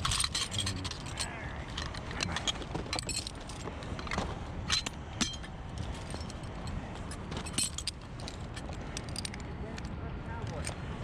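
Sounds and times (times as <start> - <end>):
metal carabiners clinking: 0.0 - 10.9.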